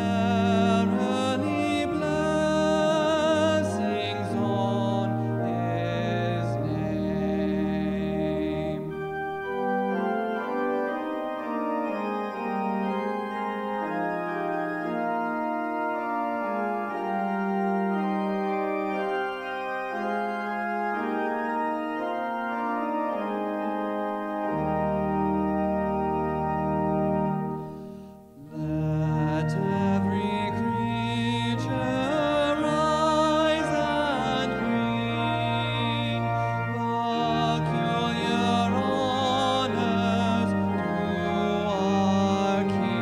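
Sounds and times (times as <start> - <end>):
church organ sustained chords: 0.0 - 43.0
low organ pedal bass notes: 0.0 - 43.0.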